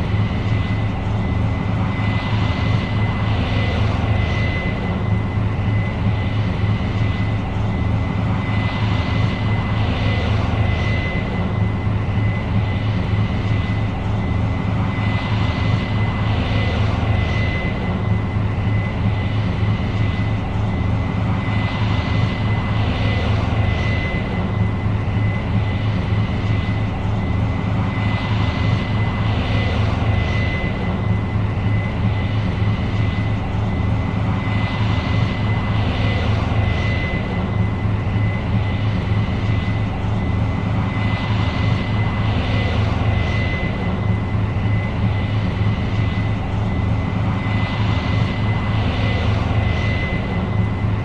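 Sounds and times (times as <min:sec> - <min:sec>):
combine harvester engine drone: 0:00.0 - 0:51.0
constant high whine: 0:00.0 - 0:51.0.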